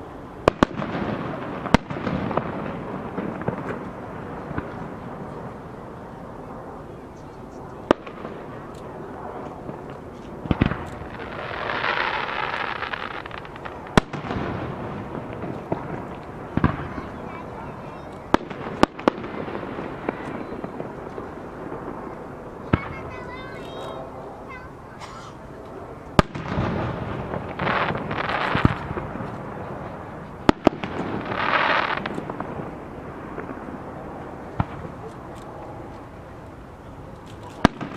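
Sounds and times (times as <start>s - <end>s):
firework bangs: 0.0s - 37.9s
firework crackles: 0.0s - 37.9s
firework shells rushing hiss: 6.4s - 37.9s.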